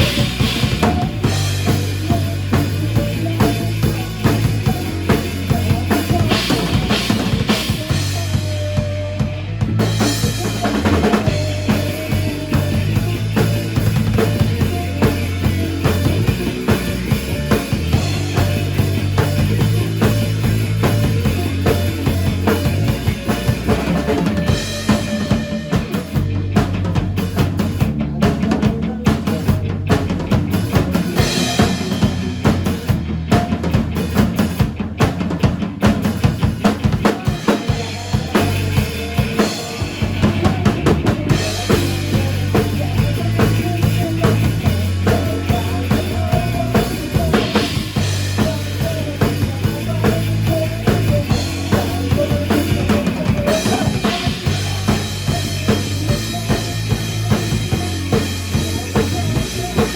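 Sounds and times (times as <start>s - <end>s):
band music: 0.0s - 59.9s
drum kit beat: 0.0s - 59.9s.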